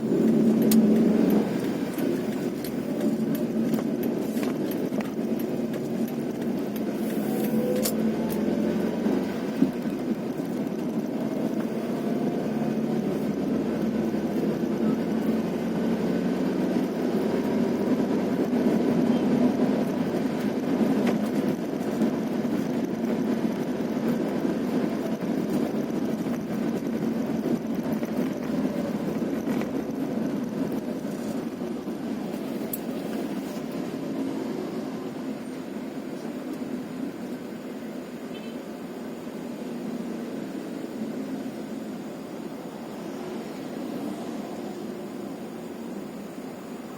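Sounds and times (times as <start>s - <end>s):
road noise: 0.0s - 46.9s
vehicle engine running: 0.0s - 46.9s.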